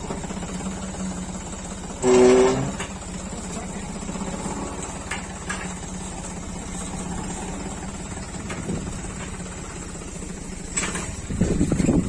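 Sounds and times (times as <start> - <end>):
tractor diesel engine chugging: 0.0 - 12.0.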